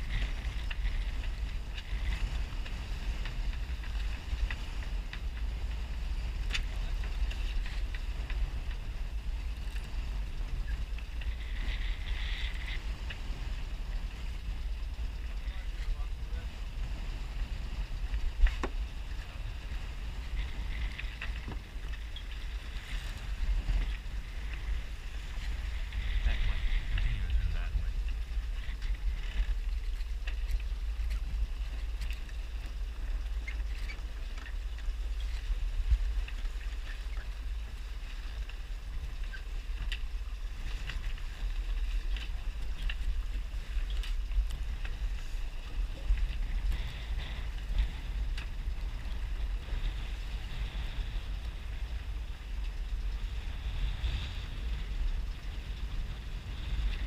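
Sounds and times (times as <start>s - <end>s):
sail rustling and clicking: 0.0s - 57.0s
wind buffeting microphone: 0.0s - 57.0s.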